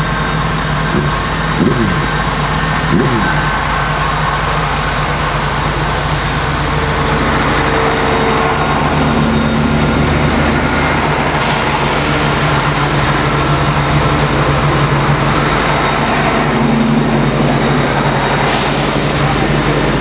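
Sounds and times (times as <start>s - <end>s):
low hum: 0.0s - 20.0s
train wheels running on rails: 0.0s - 20.0s.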